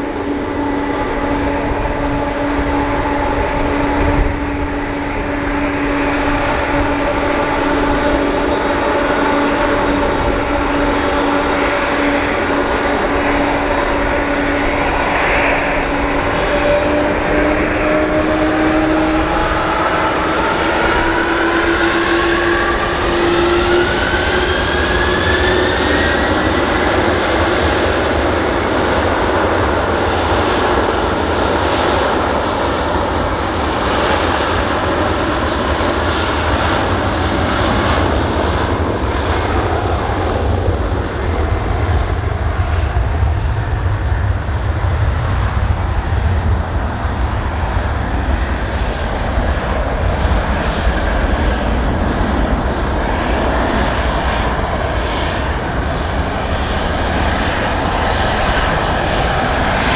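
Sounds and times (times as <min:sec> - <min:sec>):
jet engines whining and roaring: 0:00.0 - 0:59.9.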